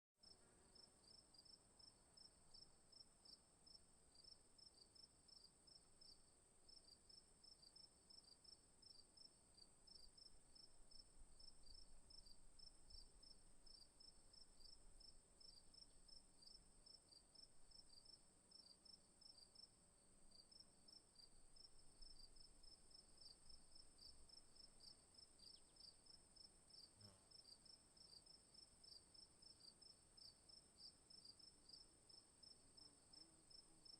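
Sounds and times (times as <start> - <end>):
crickets chirping: 0.2 - 19.7, 20.3 - 33.9.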